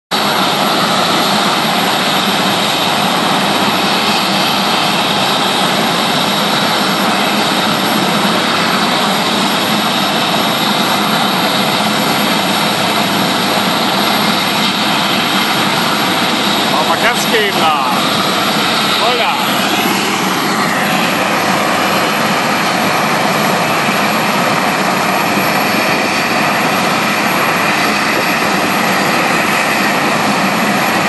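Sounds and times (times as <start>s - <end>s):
helicopter engines and rotor: 0.1s - 31.0s.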